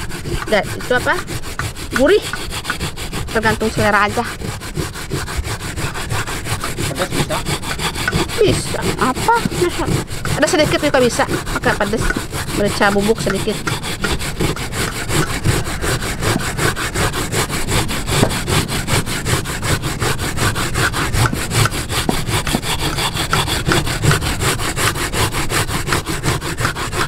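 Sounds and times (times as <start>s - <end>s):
coconut rasped on wooden grater: 0.0s - 27.0s.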